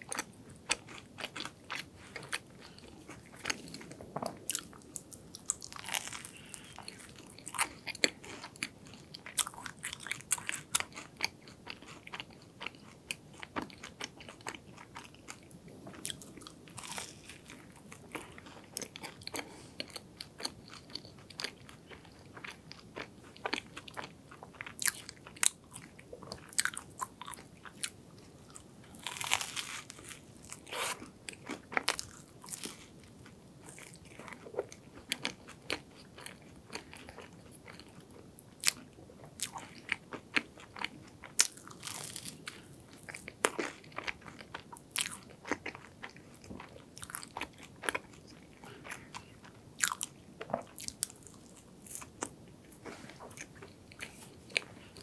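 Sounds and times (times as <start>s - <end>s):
crunchy pastry chewing: 0.0s - 55.0s.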